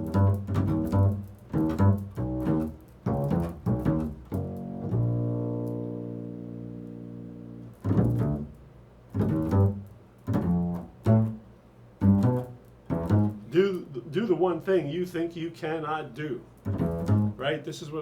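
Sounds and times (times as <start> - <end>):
low string instrument solo: 0.0 - 14.0, 16.6 - 17.4.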